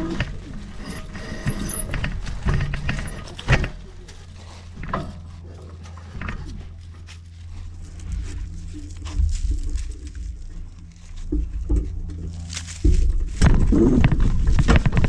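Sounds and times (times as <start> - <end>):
bike rattling and knocking: 0.0 - 15.0
steady low rumble: 0.0 - 15.0.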